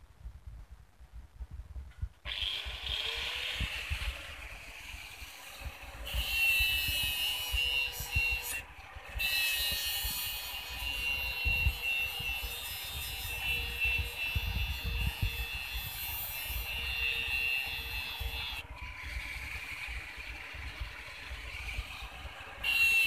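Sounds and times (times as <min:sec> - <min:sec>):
angle grinder spinning up: 0:02.3 - 0:23.0
grinder screeching on steel blade: 0:02.3 - 0:23.0.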